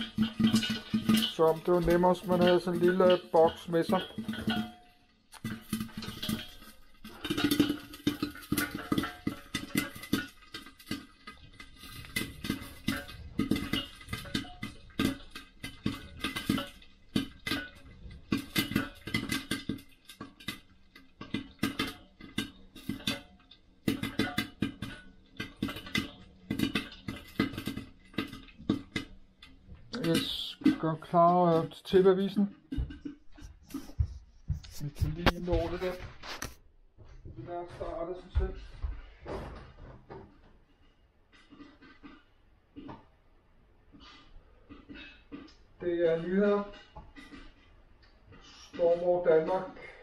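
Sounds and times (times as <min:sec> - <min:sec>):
popcorn popping in a pot: 0:00.0 - 0:34.0, 0:41.2 - 0:50.0.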